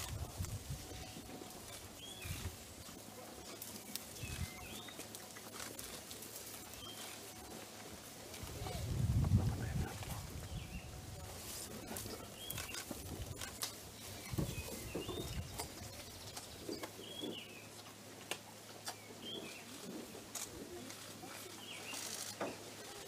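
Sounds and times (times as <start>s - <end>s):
birds chirping: 0.9s - 8.8s, 9.6s - 17.9s, 18.8s - 19.9s, 20.7s - 23.0s.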